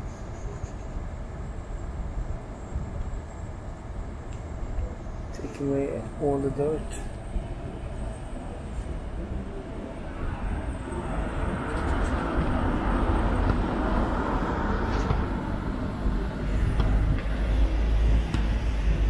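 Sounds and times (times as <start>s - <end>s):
traffic noise with low rumble: 0.0s - 19.0s.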